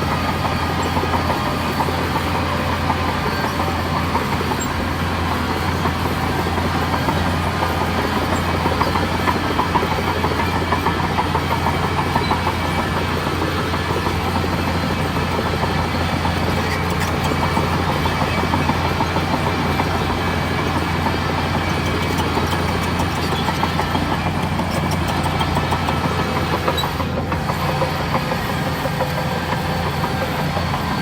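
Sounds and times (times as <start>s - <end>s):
diesel engine running: 0.0s - 31.0s
steel tracks clanking: 0.0s - 31.0s.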